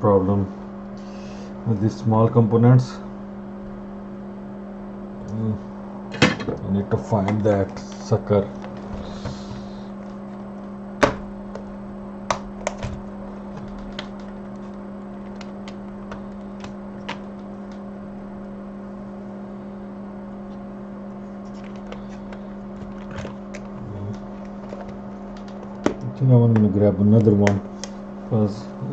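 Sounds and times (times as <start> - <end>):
electrical hum: 0.0 - 28.9.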